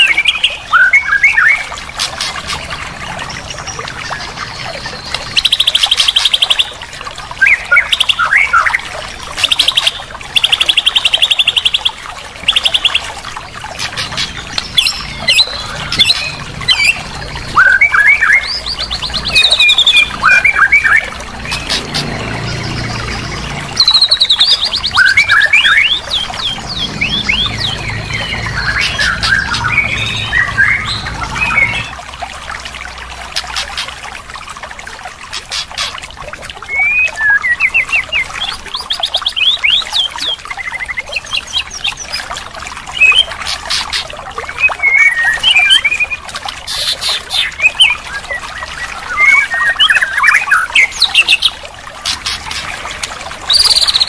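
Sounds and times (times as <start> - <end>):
songbird singing trills and whistles: 0.0 - 2.7, 3.7 - 13.2, 13.9 - 32.0, 36.6 - 42.3, 42.9 - 51.6, 53.5 - 54.0.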